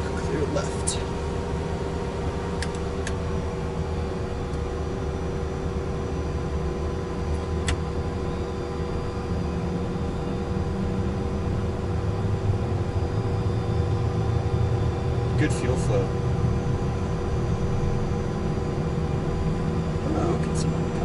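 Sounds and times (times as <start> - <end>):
jet engine whine and rumble: 0.0 - 21.0.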